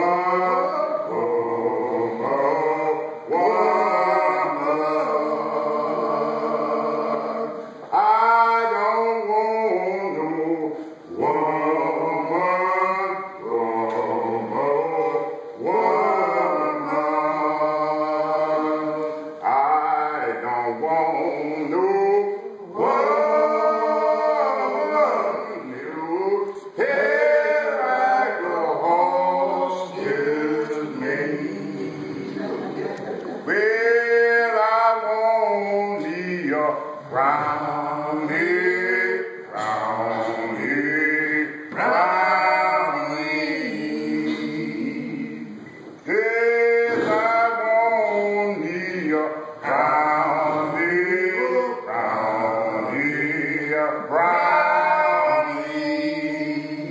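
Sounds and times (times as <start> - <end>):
men singing a cappella chant: 0.0 - 32.7, 33.4 - 56.9.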